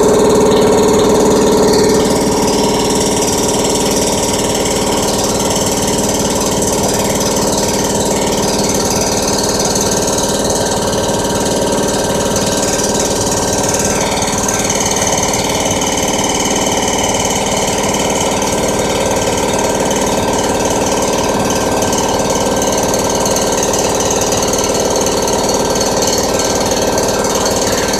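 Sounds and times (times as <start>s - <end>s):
air compressor pulsing: 0.0s - 27.9s.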